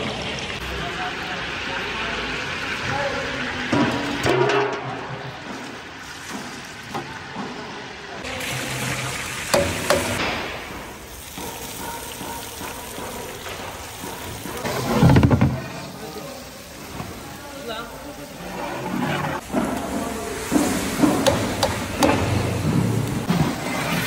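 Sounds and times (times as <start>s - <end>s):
cooking pot background hiss: 0.0s - 23.3s.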